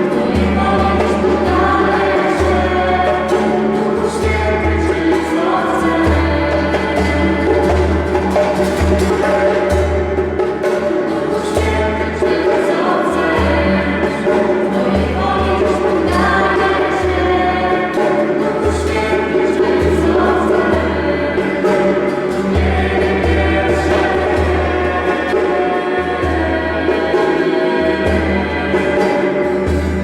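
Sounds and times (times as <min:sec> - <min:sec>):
worship song by live band: 0:00.0 - 0:30.0.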